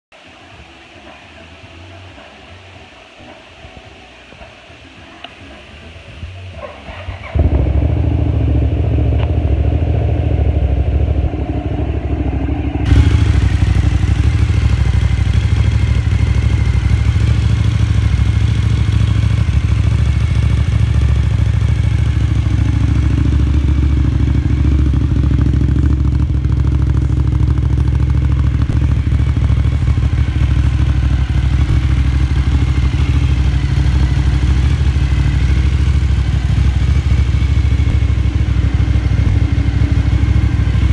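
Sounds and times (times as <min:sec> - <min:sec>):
motorcycle engine idling: 0:05.4 - 0:40.9.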